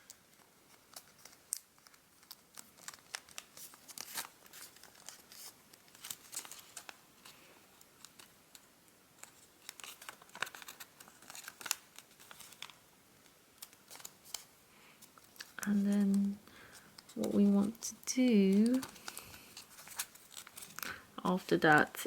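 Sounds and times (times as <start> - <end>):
paper crinkling while folded: 0.0 - 22.0.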